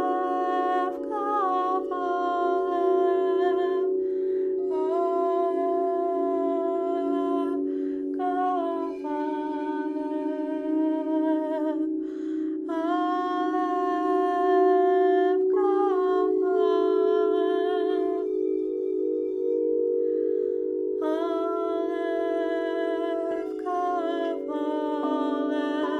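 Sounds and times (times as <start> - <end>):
singing bowls drone: 0.0 - 25.9
woman singing held tones: 0.0 - 25.9.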